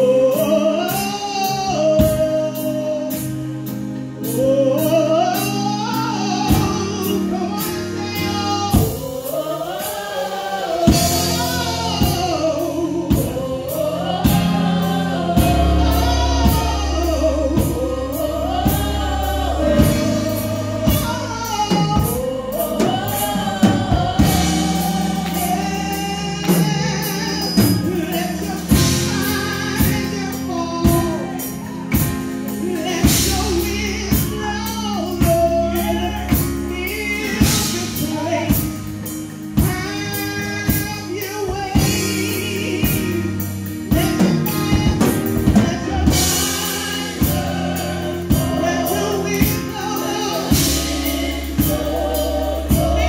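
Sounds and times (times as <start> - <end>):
band accompaniment: 0.0 - 53.0
backing singers: 4.4 - 38.6, 41.7 - 53.0
steady drumbeat: 8.7 - 53.0.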